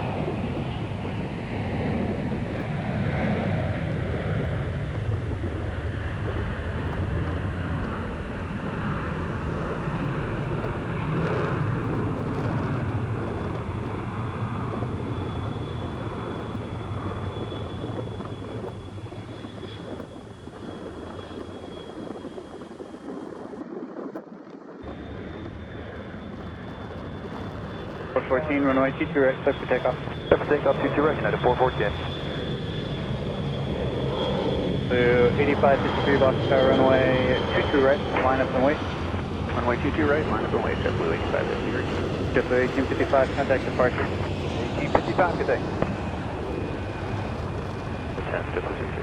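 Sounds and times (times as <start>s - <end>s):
jet engines at takeoff: 0.0s - 49.0s.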